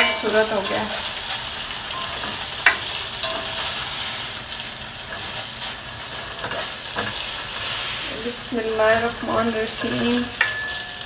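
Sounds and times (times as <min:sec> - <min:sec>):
chicken sizzling in hot oil: 0:00.0 - 0:11.0
spatula scraping pan: 0:00.0 - 0:11.0.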